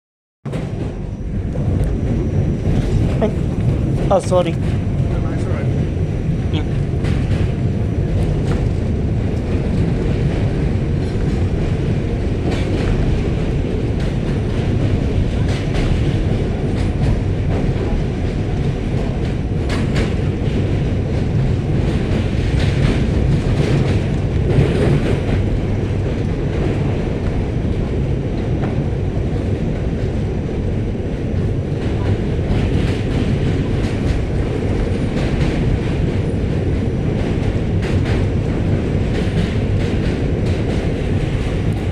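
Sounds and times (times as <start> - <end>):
subway train rumbling: 0.5 - 41.9.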